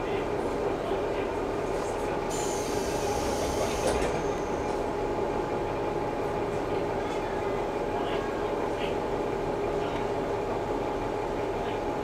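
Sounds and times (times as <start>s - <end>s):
diesel engine running: 0.0s - 12.0s
train cabin rumble: 0.0s - 12.0s.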